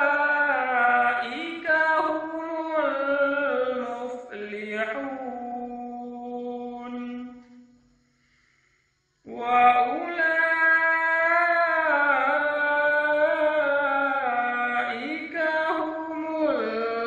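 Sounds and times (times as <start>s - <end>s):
man reciting melodically: 0.0s - 7.4s, 9.3s - 17.0s.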